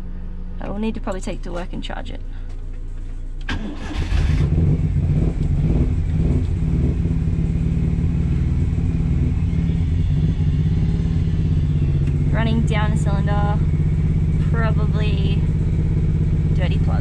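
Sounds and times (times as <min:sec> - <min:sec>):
misfiring car engine idling: 0:00.0 - 0:17.0.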